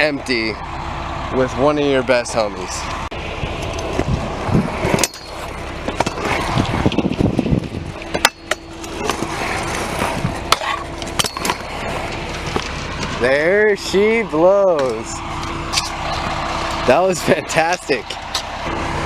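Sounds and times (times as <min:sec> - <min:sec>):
scooter wheels rolling on concrete: 0:02.7 - 0:18.7.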